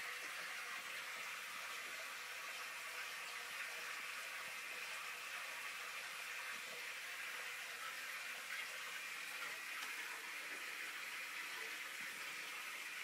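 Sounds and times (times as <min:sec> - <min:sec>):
aquarium water hissing: 0:00.0 - 0:13.0.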